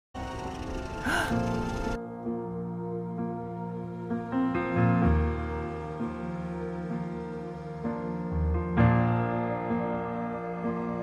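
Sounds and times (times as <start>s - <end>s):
slow music with held chords: 0.2s - 11.0s.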